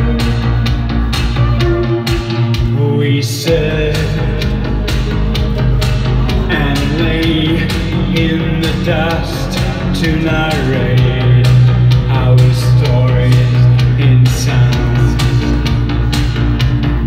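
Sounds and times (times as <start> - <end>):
drum beat: 0.0 - 2.9, 3.5 - 17.0
man singing: 0.0 - 16.2
bass line: 0.0 - 17.0
electric guitar: 0.0 - 17.0
synthesizer: 0.0 - 17.0.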